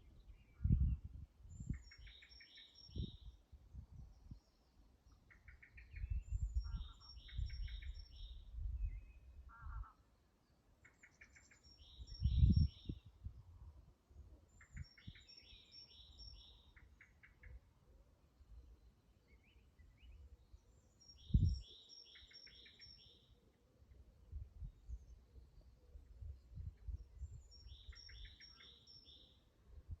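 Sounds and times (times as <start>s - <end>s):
songbirds singing: 0.0s - 13.3s, 13.9s - 30.0s.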